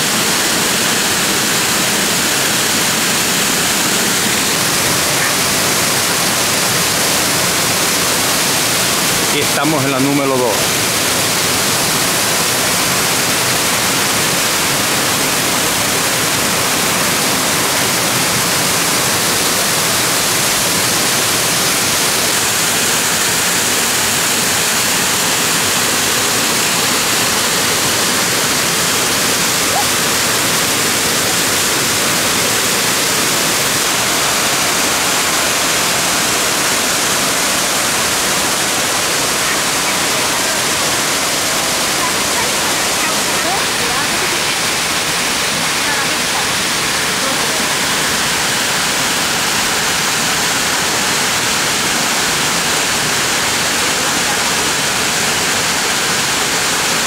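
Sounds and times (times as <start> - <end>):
waterfall pouring into pool: 0.0 - 57.0.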